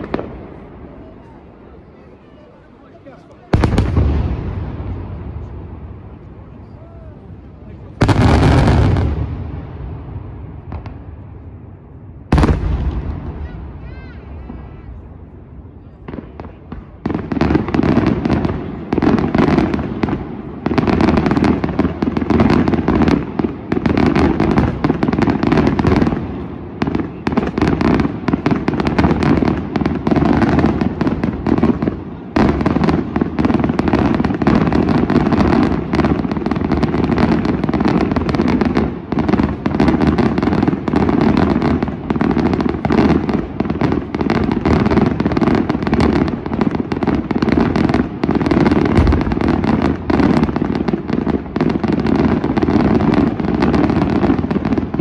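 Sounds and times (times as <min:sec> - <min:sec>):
fireworks rapid bangs: 0:00.0 - 0:01.4, 0:03.0 - 0:06.2, 0:07.6 - 0:11.5, 0:12.3 - 0:15.0, 0:16.0 - 0:55.0.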